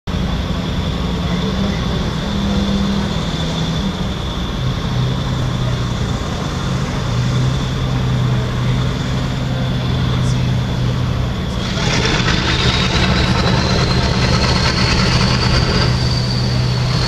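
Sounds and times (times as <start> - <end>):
boat diesel engines droning: 0.1 - 17.0
thin high engine whine: 0.1 - 17.0.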